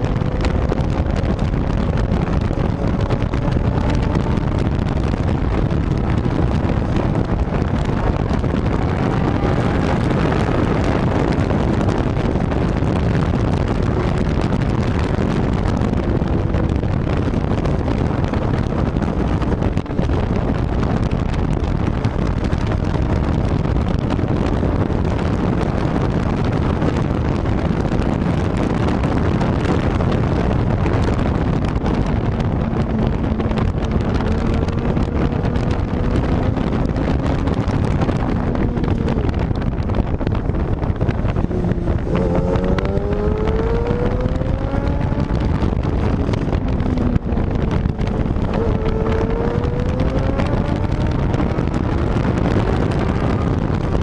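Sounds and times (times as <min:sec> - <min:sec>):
motorcycle engine revving: 0:00.0 - 0:54.0
wind rush on microphone: 0:00.0 - 0:54.0.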